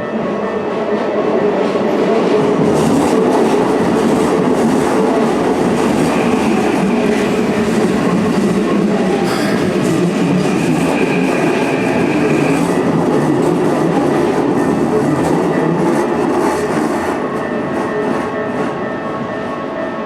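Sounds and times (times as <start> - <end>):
electric train wheels on rails: 0.0 - 20.0.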